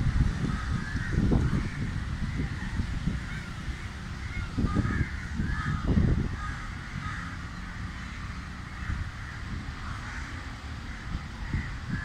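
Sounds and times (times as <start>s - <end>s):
birds calling harshly: 0.0s - 12.0s
low microphone rumble: 0.0s - 12.0s.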